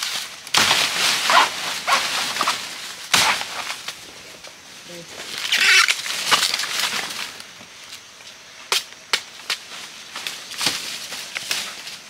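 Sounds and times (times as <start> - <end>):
leaves and undergrowth rustling: 0.0 - 12.0.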